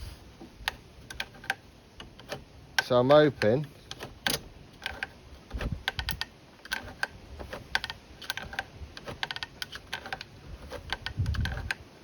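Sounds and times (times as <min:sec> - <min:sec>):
plastic lever clicking: 0:00.6 - 0:11.8.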